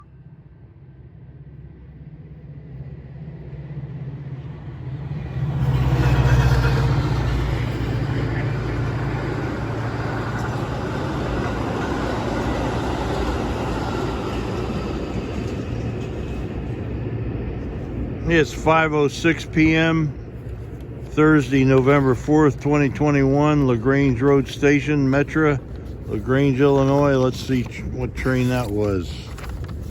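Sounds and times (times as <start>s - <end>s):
diesel train roaring past: 0.0s - 28.1s.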